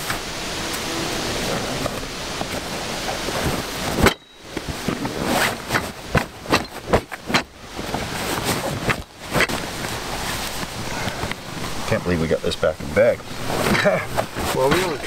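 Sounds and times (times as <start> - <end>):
canvas sack rustling: 0.0 - 15.0.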